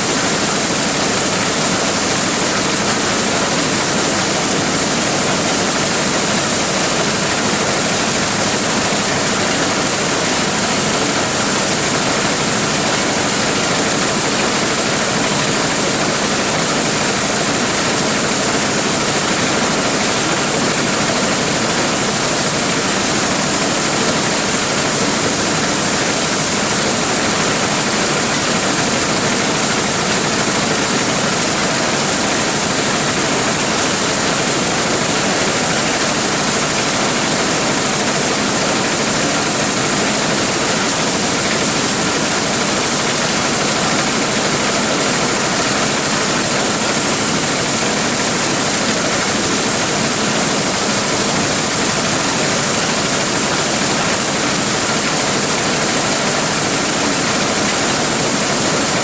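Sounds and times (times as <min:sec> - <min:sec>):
corn sheller running: 0:00.0 - 0:59.0.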